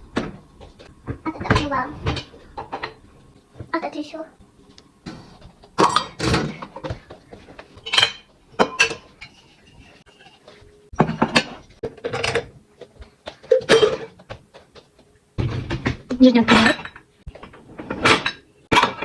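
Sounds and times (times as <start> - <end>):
dishes and cutlery clattering: 1.3 - 3.0, 5.1 - 19.0.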